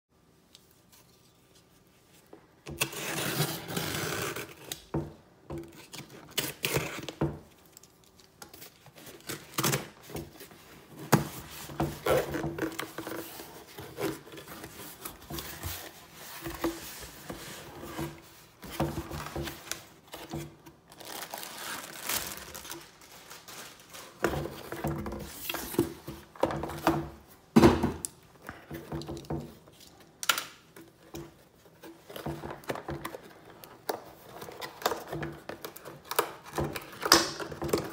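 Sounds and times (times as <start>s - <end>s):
cardboard and packaging rustling: 0.7s - 37.9s.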